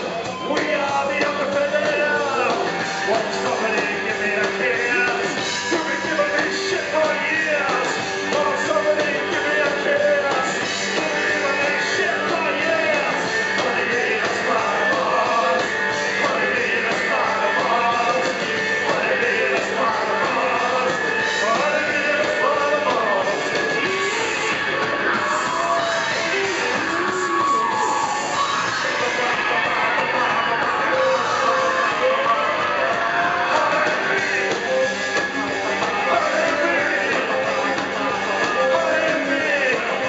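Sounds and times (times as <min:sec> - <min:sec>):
live rock band playing: 0:00.0 - 0:40.0
man singing into microphone: 0:00.4 - 0:40.0.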